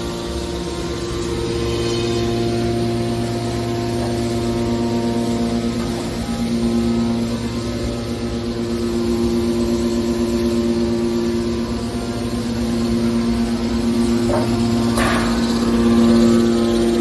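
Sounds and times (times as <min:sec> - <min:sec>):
hydraulic pump motor humming: 0:00.0 - 0:17.0.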